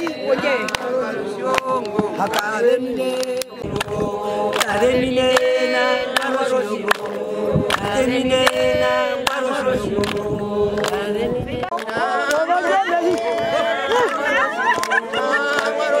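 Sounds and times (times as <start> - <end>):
handclaps on a steady beat: 0.0 - 16.0
women singing in chorus: 0.0 - 16.0.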